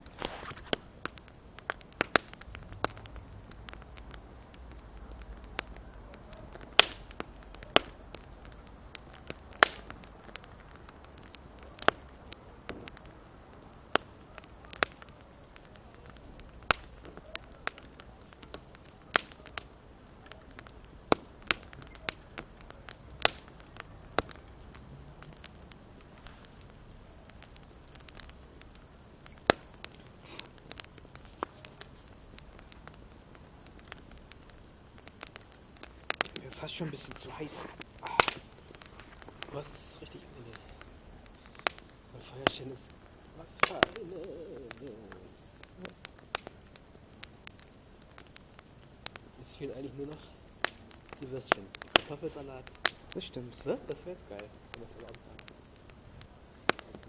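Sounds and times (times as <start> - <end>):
campfire crackling and popping: 0.0 - 57.0
faint steady hiss: 0.0 - 57.0.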